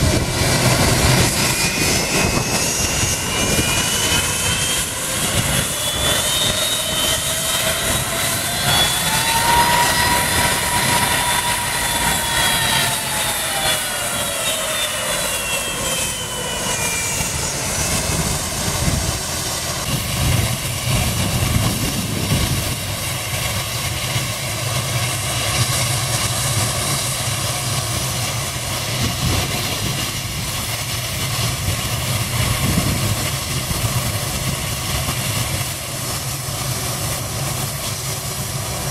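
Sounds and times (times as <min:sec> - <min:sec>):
jet engines passing: 0:00.0 - 0:38.9.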